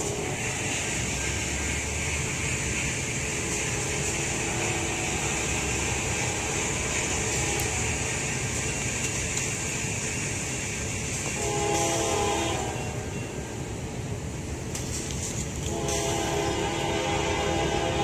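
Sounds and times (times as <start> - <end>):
high hiss: 0.0 - 18.0.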